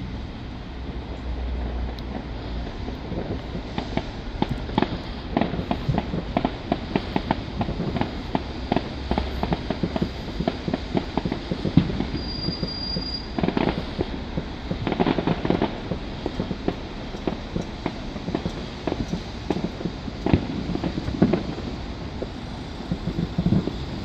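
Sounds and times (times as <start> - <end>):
fireworks popping and crackling: 0.7 - 24.0
firework whistle: 4.7 - 24.0.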